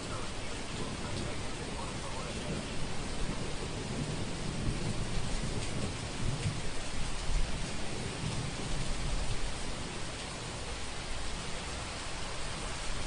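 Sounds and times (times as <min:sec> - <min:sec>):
thunder rumbling: 0:00.0 - 0:10.8
steady rain: 0:00.0 - 0:13.0.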